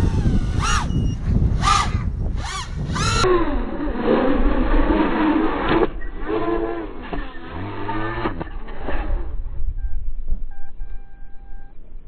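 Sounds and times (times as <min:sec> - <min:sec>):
quadcopter motors whining: 0:00.0 - 0:09.7
wind rumble on microphone: 0:00.0 - 0:12.0.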